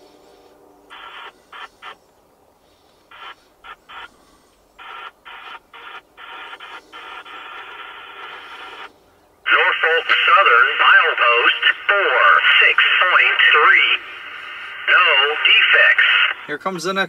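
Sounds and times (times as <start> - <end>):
scanner radio tone bursts: 0.9 - 2.0, 3.1 - 8.9, 9.5 - 16.5.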